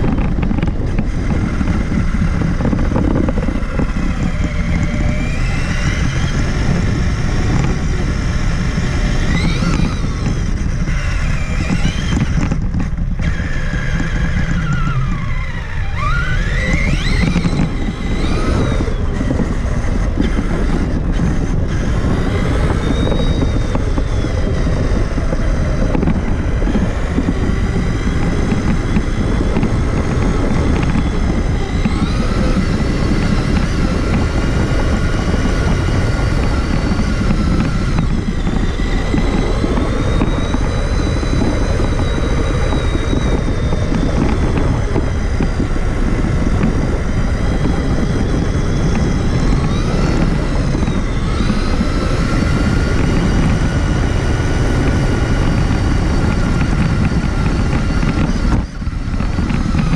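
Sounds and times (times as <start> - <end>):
electric motor whine: 0.0 - 59.9
heavy low rumble: 0.0 - 59.9.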